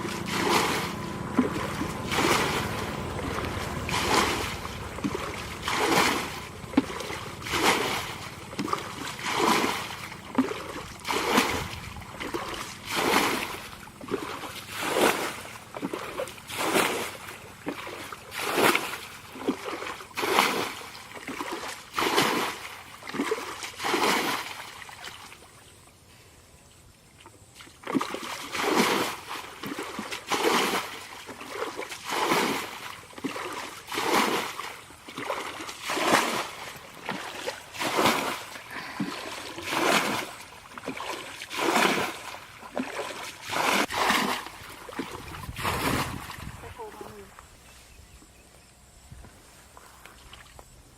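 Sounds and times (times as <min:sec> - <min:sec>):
water splashing in strokes: 0:00.0 - 0:25.6, 0:27.5 - 0:47.3.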